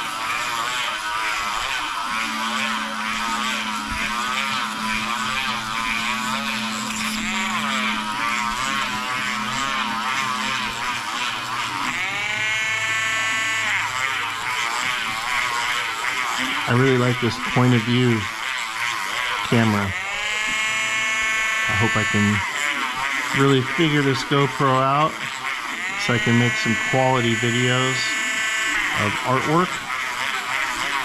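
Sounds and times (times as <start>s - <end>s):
small power tool motor whining: 0.0s - 31.0s.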